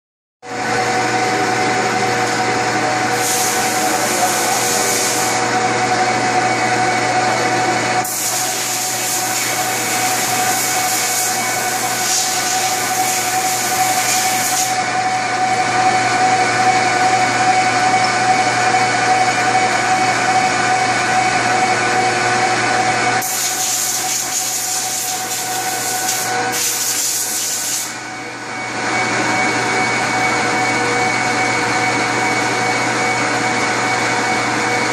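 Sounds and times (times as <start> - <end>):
metal lathe whining: 0.6 - 34.9.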